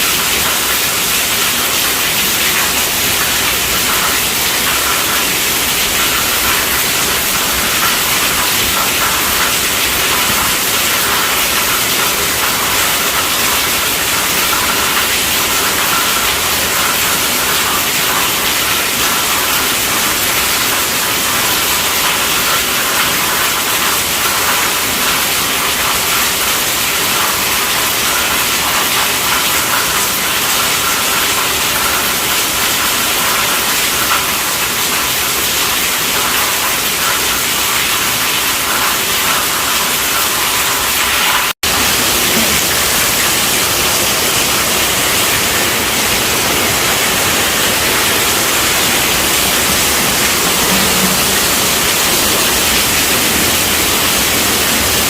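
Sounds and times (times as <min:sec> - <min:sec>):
heavy rainfall hiss: 0:00.0 - 0:55.0.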